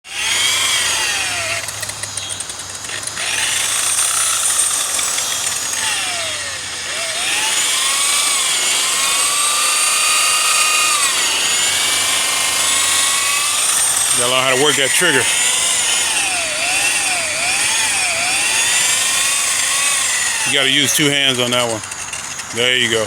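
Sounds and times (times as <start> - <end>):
electric buffer motor whine: 0.0 - 23.0.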